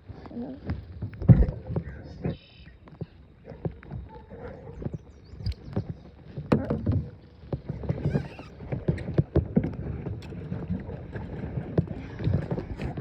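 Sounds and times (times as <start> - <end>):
water movement around boat: 0.0 - 13.0.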